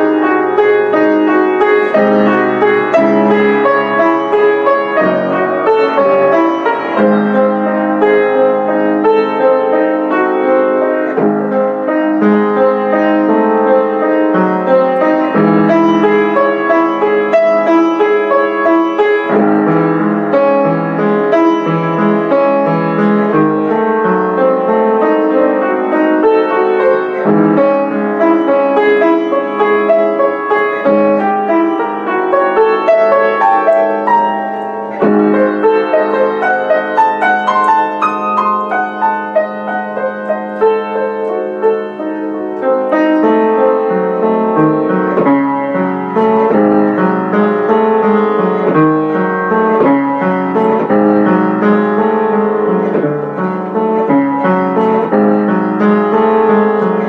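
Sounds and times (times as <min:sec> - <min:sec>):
solo classical piano: 0:00.0 - 0:57.0.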